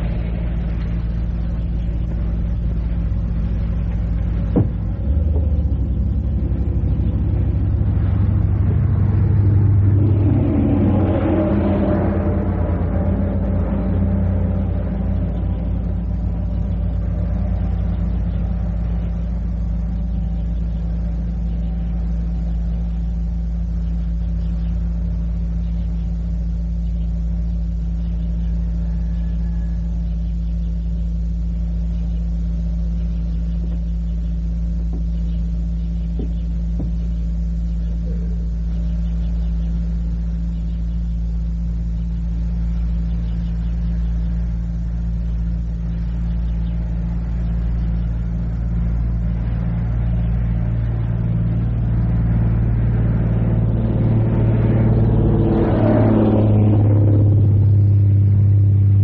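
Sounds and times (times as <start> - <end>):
low hum and rumble: 0.0 - 59.0.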